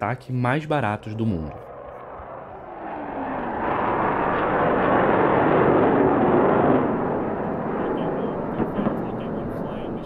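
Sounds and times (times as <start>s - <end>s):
aircraft engine roar: 1.0s - 10.0s.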